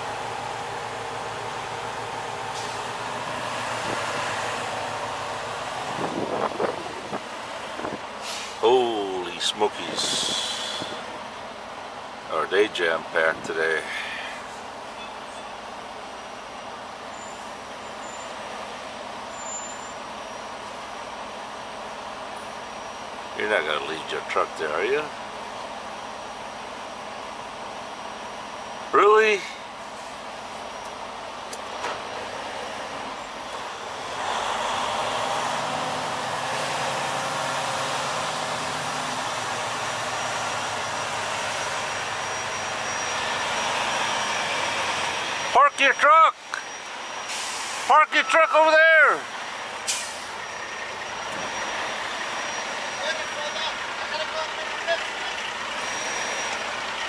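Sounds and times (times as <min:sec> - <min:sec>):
road noise: 0:00.0 - 0:57.0
rushing noise inside truck cab: 0:00.0 - 0:57.0.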